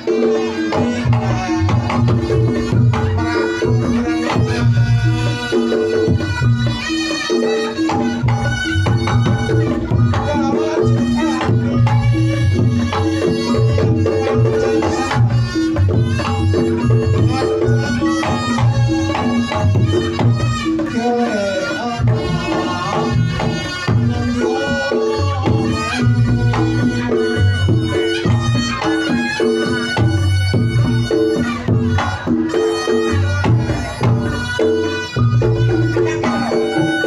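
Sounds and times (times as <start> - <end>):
drums beating: 0.0 - 37.0
wavering reed melody: 0.0 - 37.0.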